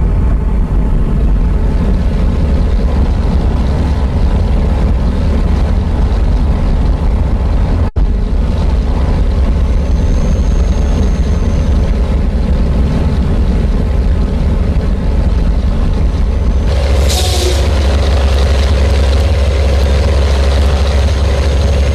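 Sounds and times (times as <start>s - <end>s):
truck diesel engine drone: 0.0s - 21.9s.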